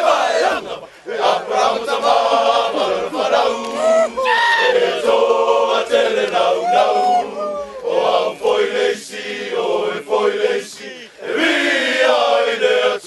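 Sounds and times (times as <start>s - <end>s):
men singing a chant: 0.0s - 13.0s.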